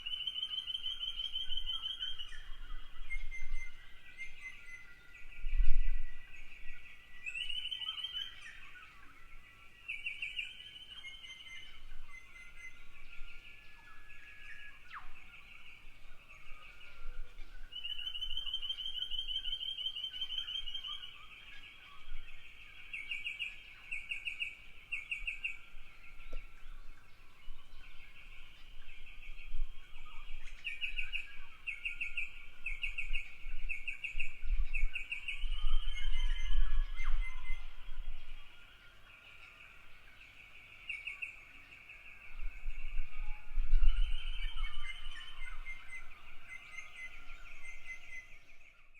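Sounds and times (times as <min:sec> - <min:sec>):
small birds trilling: 0:00.0 - 0:48.9.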